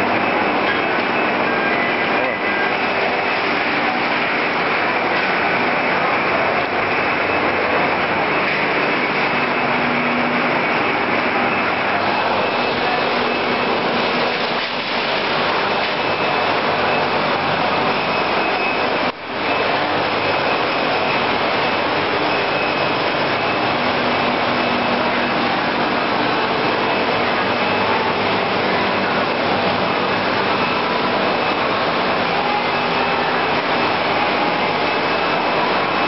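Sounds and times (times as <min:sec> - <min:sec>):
binding machine running: 0:00.0 - 0:36.0.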